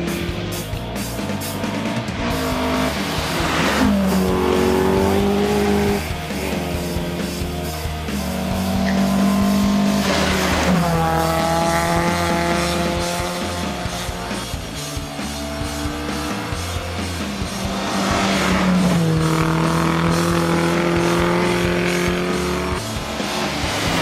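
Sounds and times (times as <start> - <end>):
background music: 0.0 - 24.0
rally cars passing at speed: 1.3 - 24.0.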